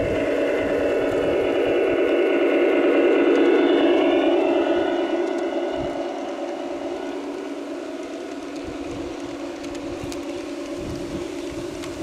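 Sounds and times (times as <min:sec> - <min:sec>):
engine-like drone: 0:00.0 - 0:12.0
model freight cars rolling on track: 0:00.0 - 0:12.0
wind buffeting microphone: 0:00.0 - 0:12.0.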